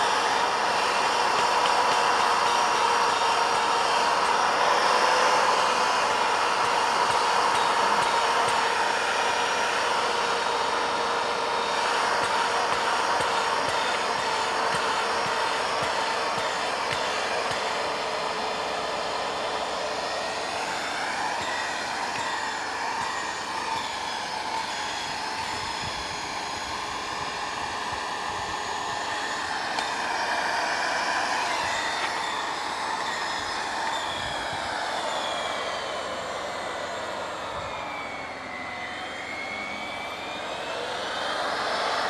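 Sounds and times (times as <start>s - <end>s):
electric drill whining into wood: 0.0s - 42.0s.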